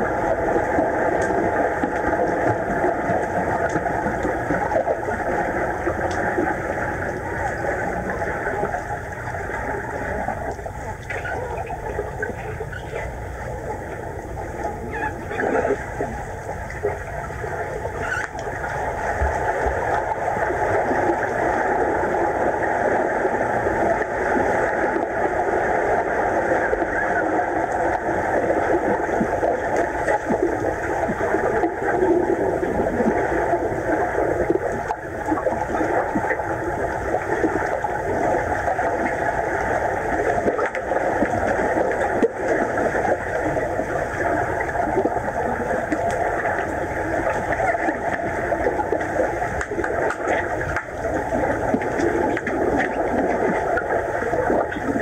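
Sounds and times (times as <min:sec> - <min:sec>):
underwater rushing and bubbling: 0:00.0 - 0:55.0.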